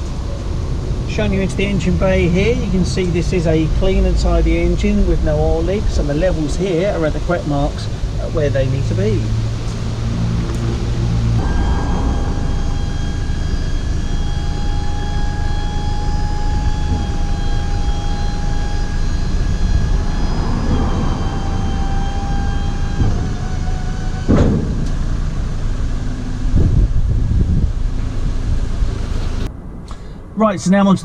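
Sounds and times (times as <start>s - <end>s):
hydraulic pump whining: 1.6s - 27.1s.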